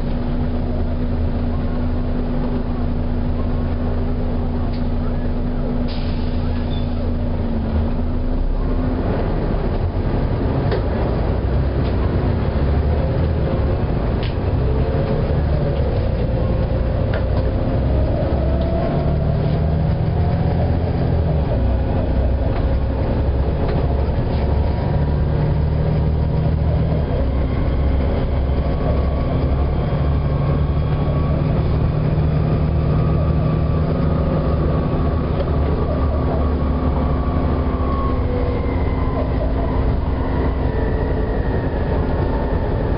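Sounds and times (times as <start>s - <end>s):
bus engine and road noise: 0.0s - 42.9s.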